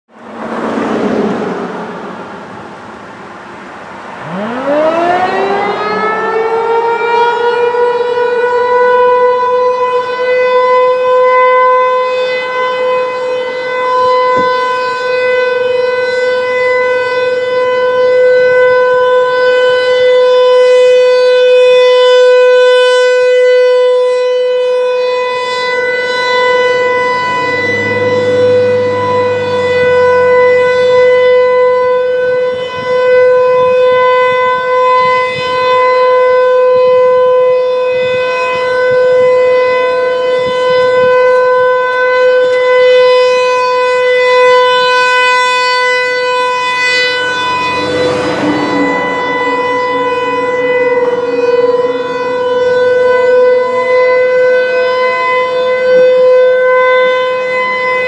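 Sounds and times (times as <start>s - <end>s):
rotating electronic siren tone: 4.2s - 23.9s, 24.8s - 58.0s.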